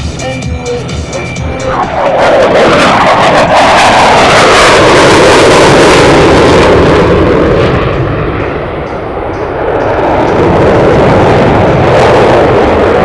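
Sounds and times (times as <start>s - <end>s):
fighter jet roaring past: 1.1s - 13.0s.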